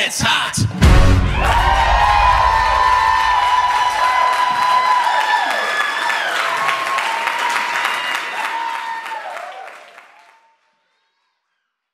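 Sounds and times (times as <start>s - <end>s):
cheering voices: 0.2s - 11.1s
audience applauding: 1.2s - 10.8s.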